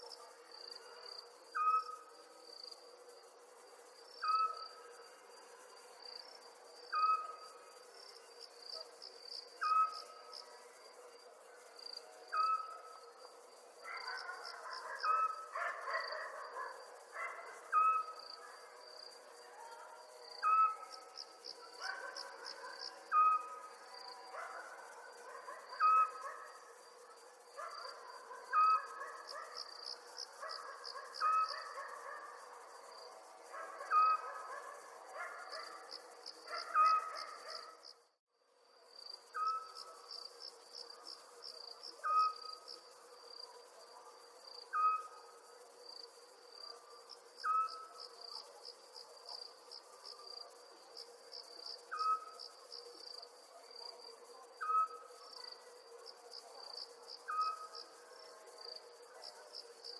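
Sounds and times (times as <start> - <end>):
crickets trilling: 0.0 - 38.0, 38.6 - 59.9.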